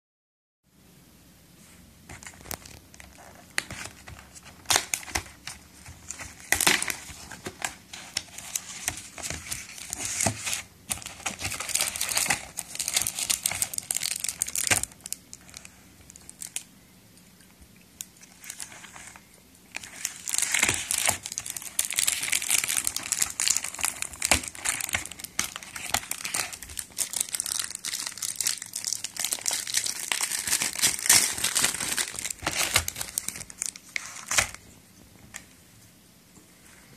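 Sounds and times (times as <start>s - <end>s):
foil wrapper crinkling and tearing: 2.2s - 16.7s, 18.2s - 34.6s.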